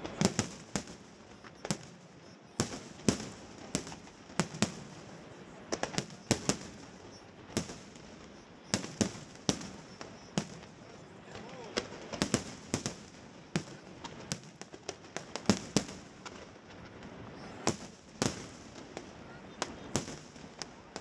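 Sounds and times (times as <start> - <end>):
fireworks bursting in bangs: 0.0 - 21.0.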